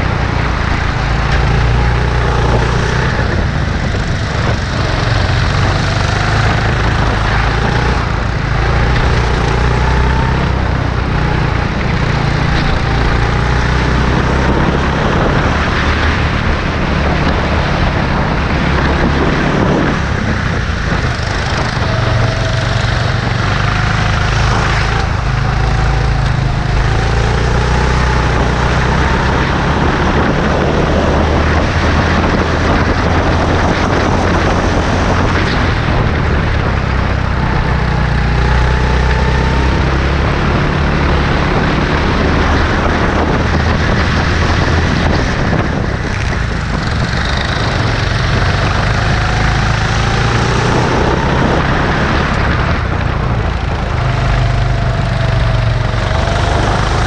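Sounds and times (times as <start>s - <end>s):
go-kart engine revving: 0.0s - 57.0s
low rumble: 0.0s - 57.0s.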